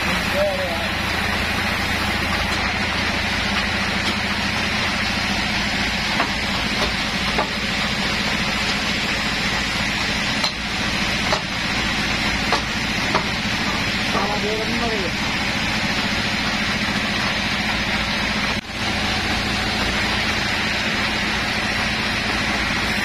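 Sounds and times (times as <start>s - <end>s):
bandsaw running: 0.0s - 23.0s.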